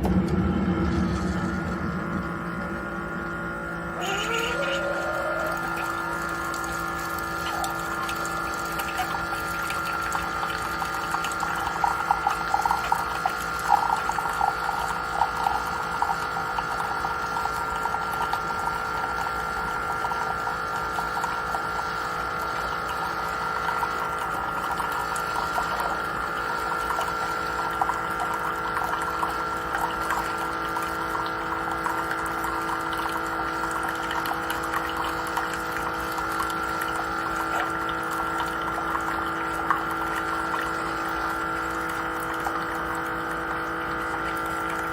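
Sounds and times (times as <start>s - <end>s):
coffee maker pump humming: 0.0s - 44.9s
water gurgling: 0.0s - 44.9s.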